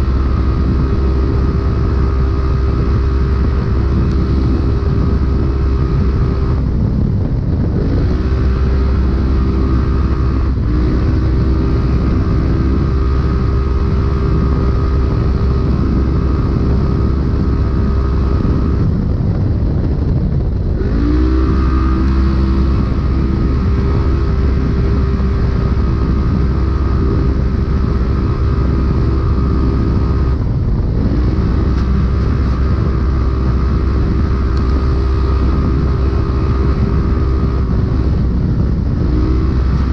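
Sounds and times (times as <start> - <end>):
engine running at high revs: 0.0 - 39.9.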